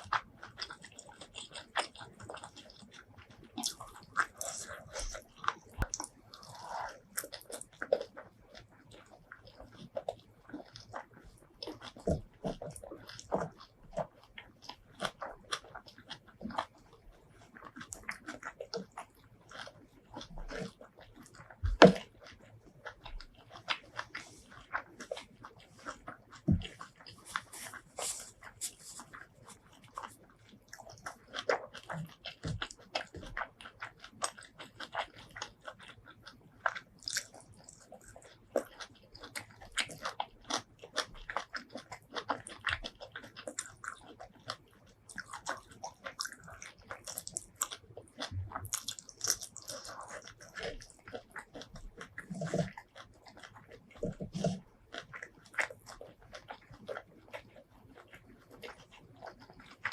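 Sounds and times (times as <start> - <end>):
chewing and mouth smacks: 0.0 - 59.9.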